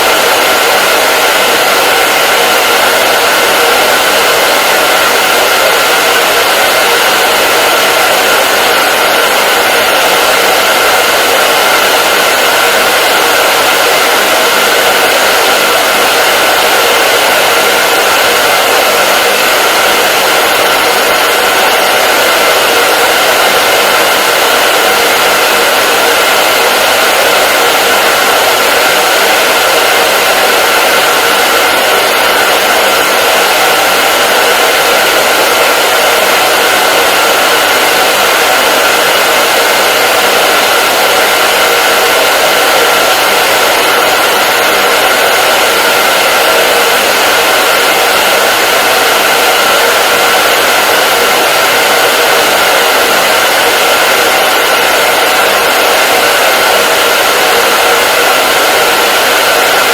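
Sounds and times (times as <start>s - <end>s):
hair dryer blowing air: 0.0s - 59.9s
hair dryer motor whine: 0.0s - 59.9s.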